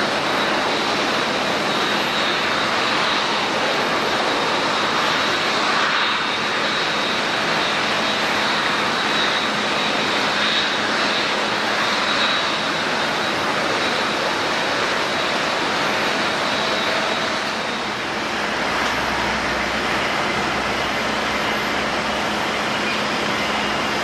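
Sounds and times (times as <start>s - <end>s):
jet engines rushing with whine: 0.0s - 24.0s.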